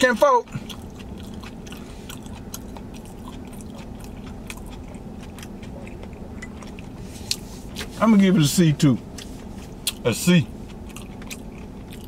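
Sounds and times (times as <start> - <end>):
low hum in car cabin: 0.0 - 12.0
man chewing: 0.1 - 8.0, 9.0 - 12.0.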